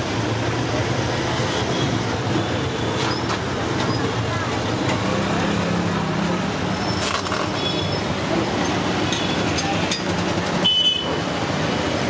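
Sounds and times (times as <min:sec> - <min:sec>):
motorbikes and cars passing: 0:00.0 - 0:12.0.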